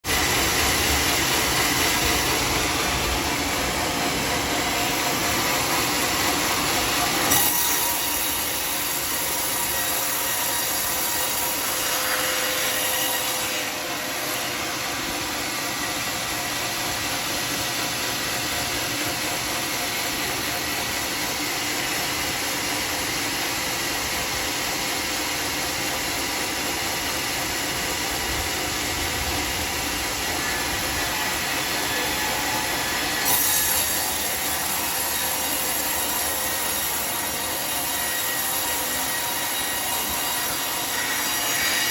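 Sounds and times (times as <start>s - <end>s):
circular saw blade sawing log: 0.1s - 41.9s.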